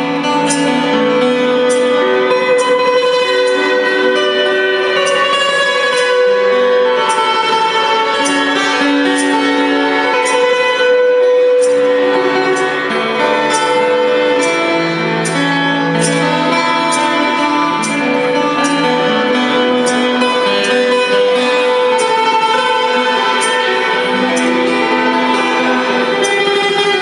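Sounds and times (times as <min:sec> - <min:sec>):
held drone note: 0:00.0 - 0:27.0
lute plucked melody: 0:00.0 - 0:27.0.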